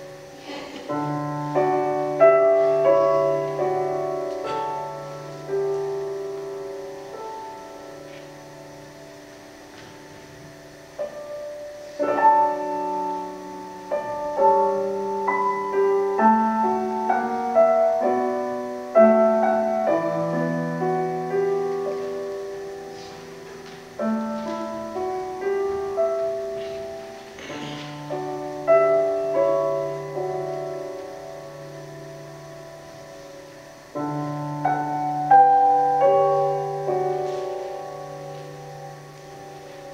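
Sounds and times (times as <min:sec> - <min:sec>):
slow solo piano piece: 0:00.0 - 0:39.9.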